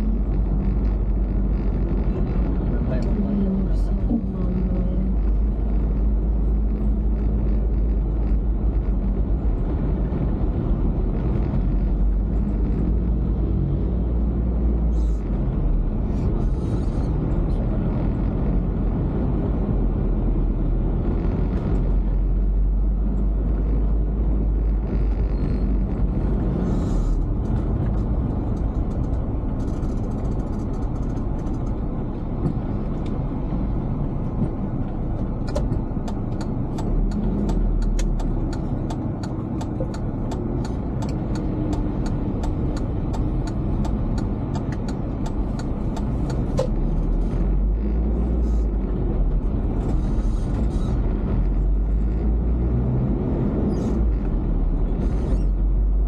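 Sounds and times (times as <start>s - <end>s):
car driving on street: 0.0s - 56.0s.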